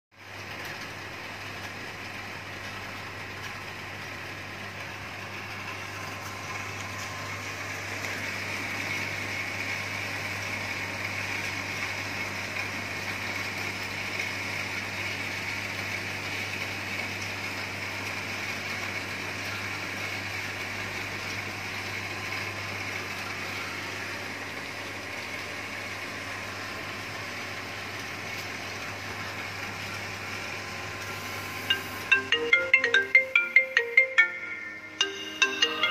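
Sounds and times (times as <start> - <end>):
pump motor humming with hiss: 0.2 - 35.9.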